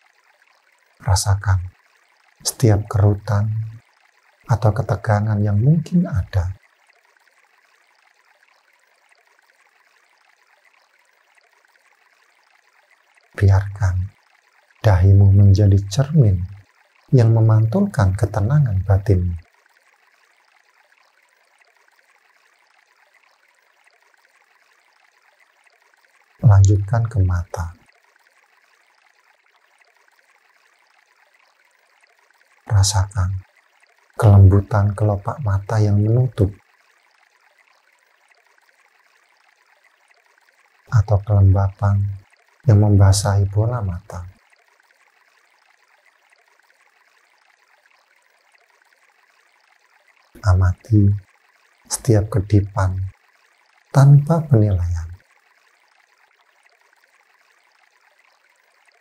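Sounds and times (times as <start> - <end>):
faint stream trickling: 0.0 - 59.0.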